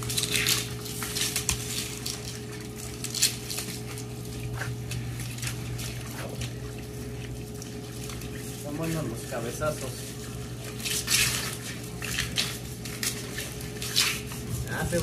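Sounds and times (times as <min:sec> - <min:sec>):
hose water splashing: 0:00.0 - 0:15.0
steady low hum: 0:00.0 - 0:15.0.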